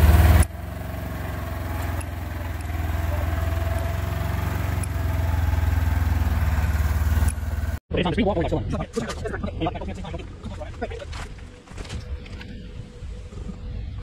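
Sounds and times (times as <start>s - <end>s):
vehicle engine running at low speed: 0.0s - 7.8s, 10.1s - 14.0s.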